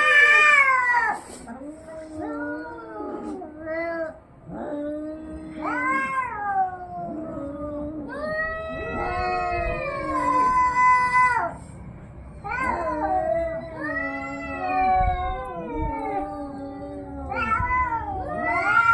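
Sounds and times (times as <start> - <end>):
cats yowling in a fight: 0.0 - 18.9.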